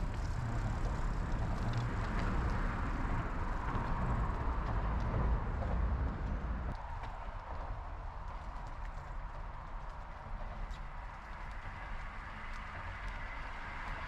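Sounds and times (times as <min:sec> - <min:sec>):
tyre and road noise: 0:00.0 - 0:14.0
wind rumble on microphone: 0:00.0 - 0:14.0.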